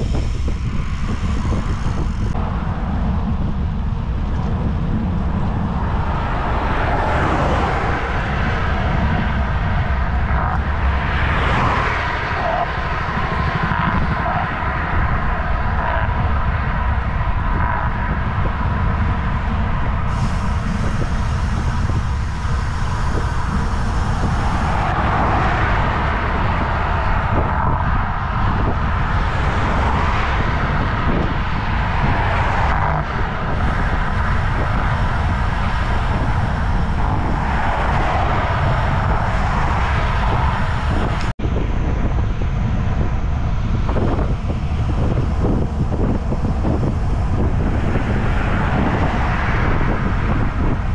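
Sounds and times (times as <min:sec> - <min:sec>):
passing cars: 0:00.0 - 0:50.9
wind rush on microphone: 0:00.0 - 0:50.9.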